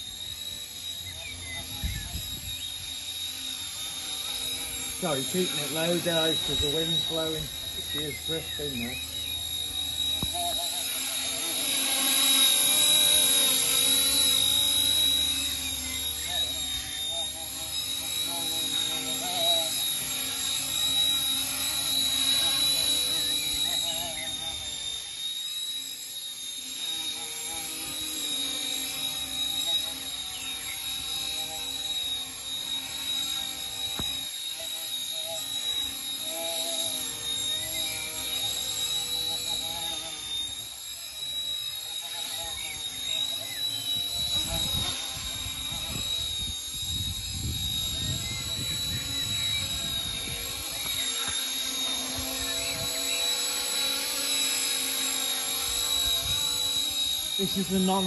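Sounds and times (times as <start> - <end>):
rc helicopter whining: 0.0 - 58.0.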